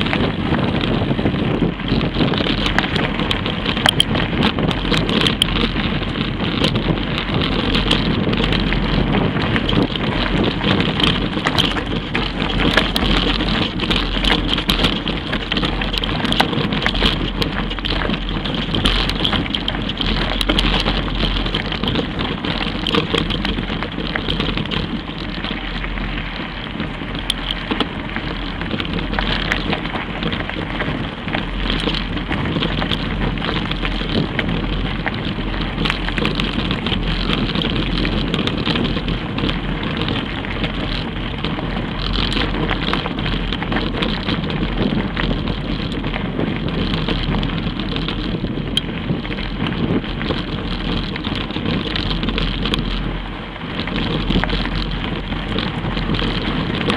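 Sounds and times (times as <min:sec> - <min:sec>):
bike clicks and rattles: 0:00.0 - 0:56.9
tyre and trail noise: 0:00.0 - 0:56.9.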